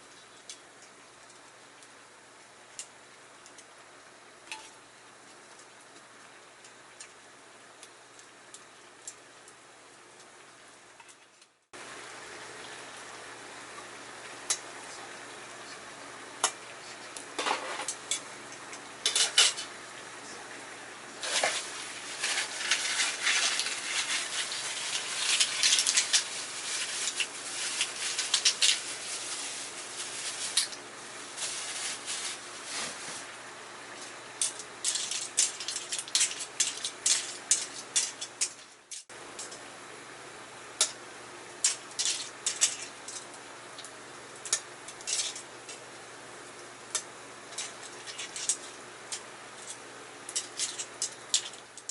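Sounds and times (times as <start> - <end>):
food sizzling and crackling: 0.0 - 51.9.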